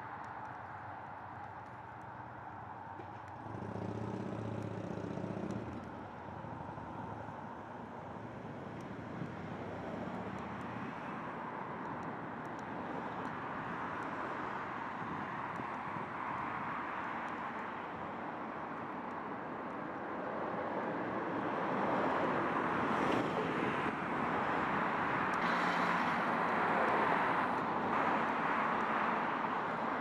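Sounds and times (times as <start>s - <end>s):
distant road traffic: 0.0s - 30.0s.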